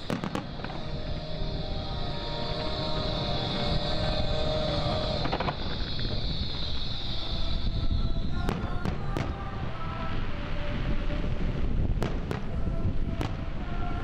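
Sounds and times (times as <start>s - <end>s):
firework bangs: 0.0s - 14.0s
firework hiss: 0.0s - 14.0s.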